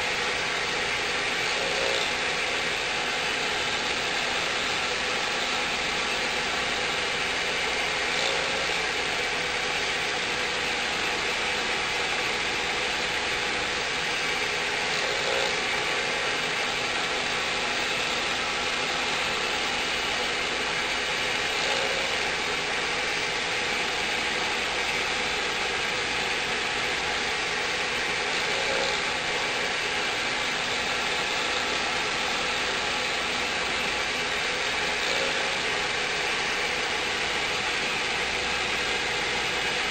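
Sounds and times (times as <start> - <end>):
router spindle milling: 0.0 - 39.9.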